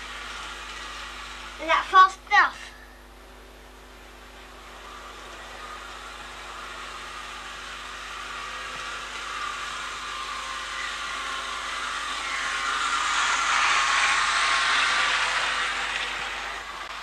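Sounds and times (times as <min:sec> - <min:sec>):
model train motor whirring: 0:00.0 - 0:03.0, 0:04.0 - 0:17.0.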